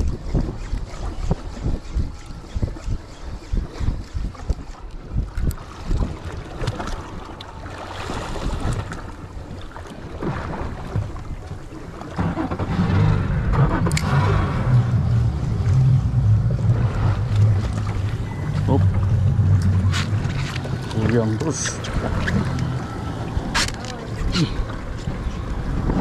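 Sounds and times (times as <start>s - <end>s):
low engine hum: 0.0s - 26.0s
water noise around boat: 0.0s - 26.0s
wind: 0.0s - 26.0s.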